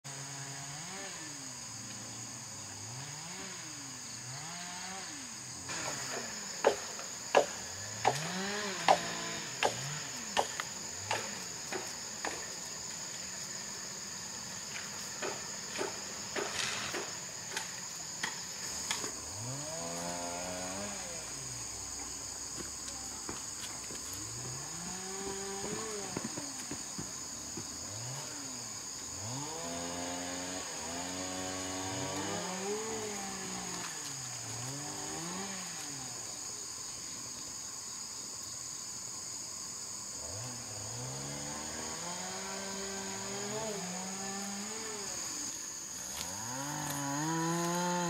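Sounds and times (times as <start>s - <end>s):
high-pitched insect chorus: 0.1s - 48.0s.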